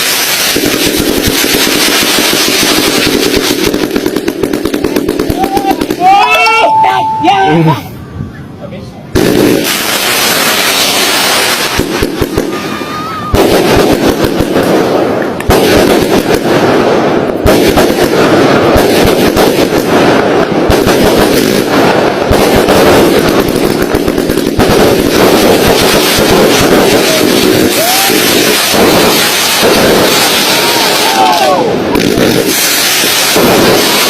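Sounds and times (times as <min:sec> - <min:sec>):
fireworks and firecracker bangs: 0:00.0 - 0:07.4, 0:09.1 - 0:34.0.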